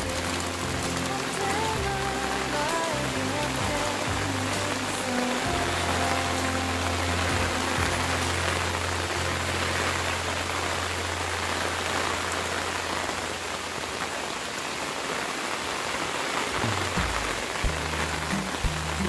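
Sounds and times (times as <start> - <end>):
rain falling on leaves: 0.0 - 19.0.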